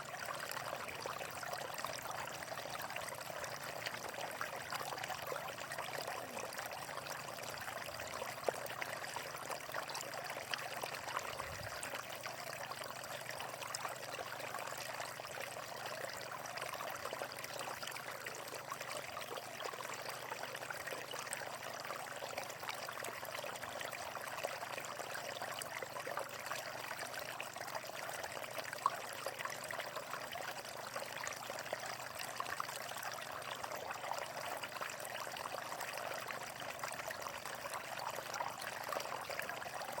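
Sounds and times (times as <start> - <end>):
water flowing over rocks: 0.0 - 40.0.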